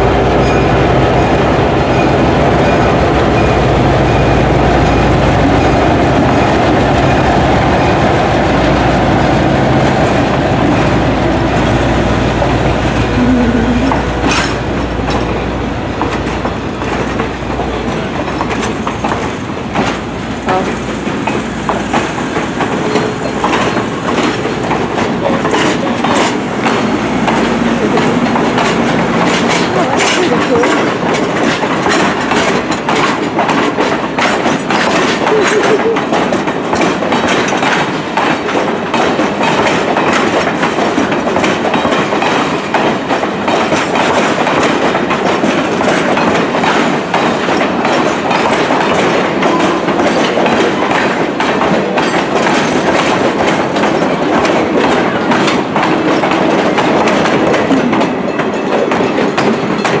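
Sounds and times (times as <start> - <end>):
railroad cars rolling past: 0.0 - 60.0
wheels clickety-clack: 0.2 - 60.0.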